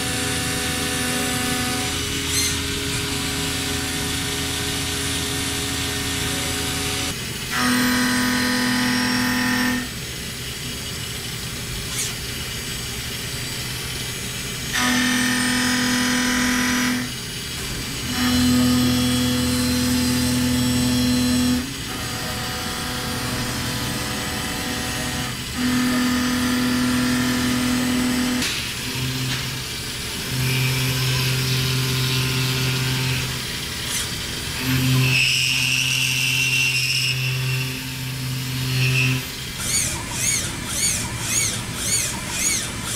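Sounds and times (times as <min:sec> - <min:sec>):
milling cutter whine: 0:00.0 - 0:42.9.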